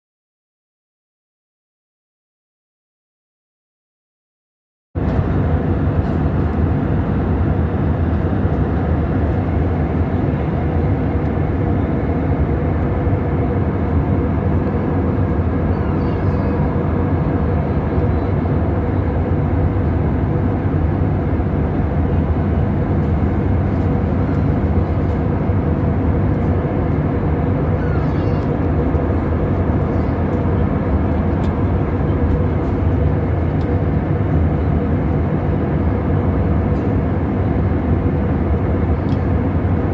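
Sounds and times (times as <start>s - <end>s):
airliner engine and airflow noise: 5.0s - 39.9s.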